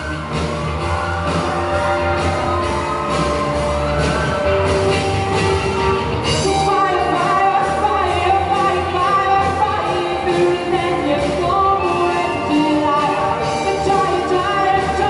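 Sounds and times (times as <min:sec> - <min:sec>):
bass guitar: 0:00.0 - 0:15.0
distorted electric guitars: 0:00.0 - 0:15.0
drum kit: 0:00.0 - 0:15.0.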